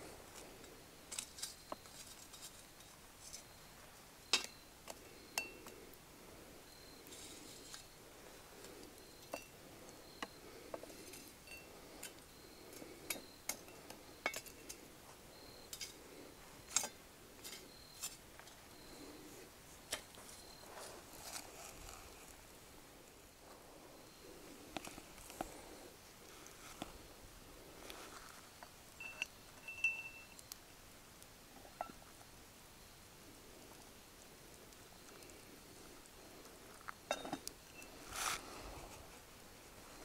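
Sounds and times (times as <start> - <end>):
shovel scraping coals: 0.3 - 5.9, 6.8 - 22.4, 23.4 - 30.6, 35.0 - 40.0.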